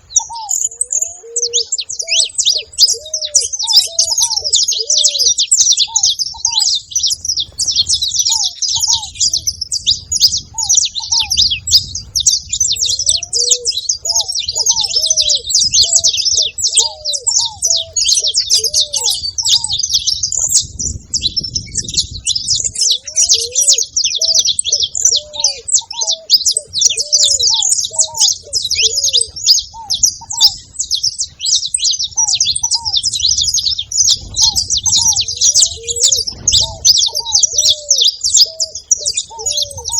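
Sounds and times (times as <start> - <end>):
finches chirping and twittering: 0.0 - 39.9
lower bird call: 0.0 - 39.9.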